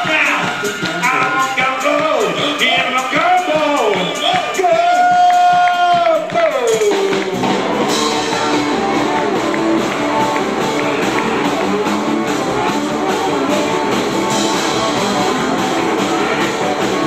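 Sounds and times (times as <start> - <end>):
band playing: 0.0 - 17.0
electric guitar rock and roll: 0.0 - 17.0.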